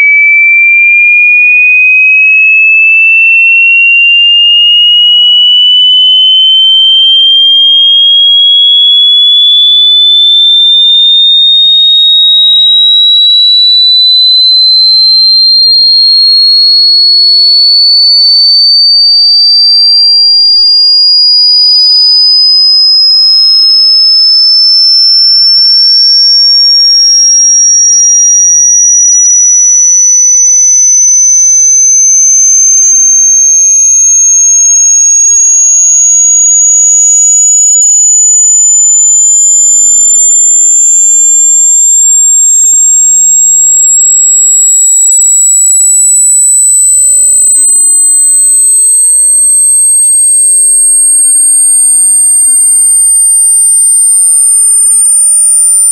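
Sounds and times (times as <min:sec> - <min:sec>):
sine-wave tone sweeping upward: 0:02.3 - 0:55.9.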